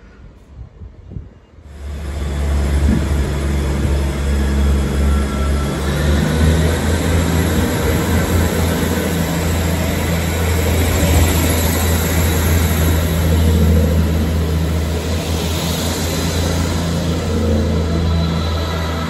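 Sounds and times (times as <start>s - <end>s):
diesel train engines droning: 1.5s - 19.0s.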